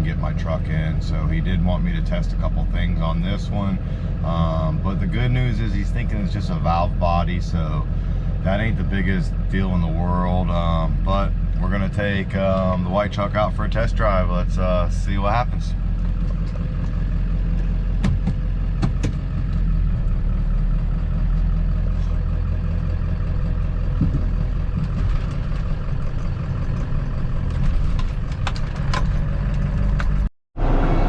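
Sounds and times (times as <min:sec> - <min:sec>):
pickup engine droning: 0:00.0 - 0:31.0.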